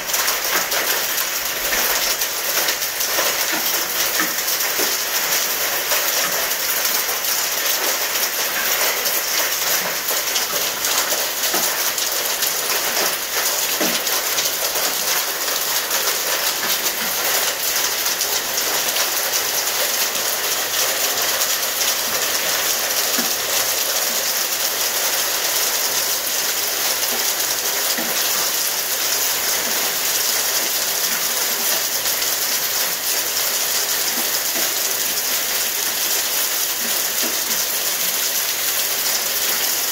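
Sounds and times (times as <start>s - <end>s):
hail rattling on hard surfaces: 0.0s - 39.9s.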